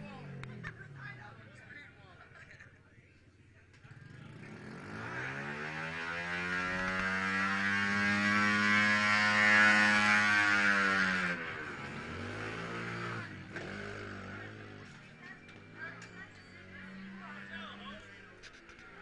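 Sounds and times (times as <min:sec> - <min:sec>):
pit bike engines revving: 0:00.0 - 0:02.8, 0:03.6 - 0:19.0.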